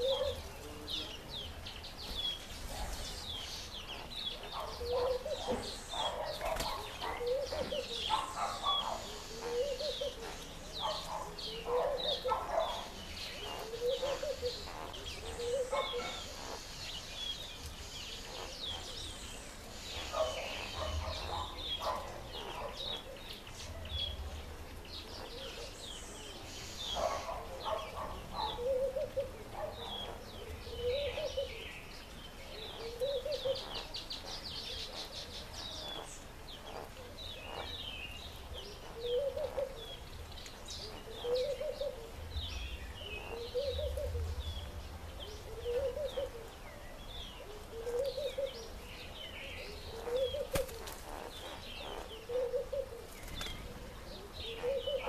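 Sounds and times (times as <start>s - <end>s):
low guttural bird cooing: 0.0s - 1.5s, 2.6s - 16.7s, 18.1s - 55.0s
small birds chirping: 0.0s - 55.0s.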